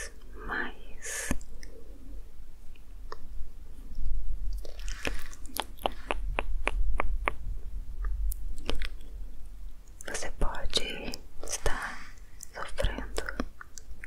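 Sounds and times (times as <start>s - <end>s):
soft rustle: 0.0s - 6.6s, 7.6s - 13.8s
steady low hum: 0.0s - 14.0s.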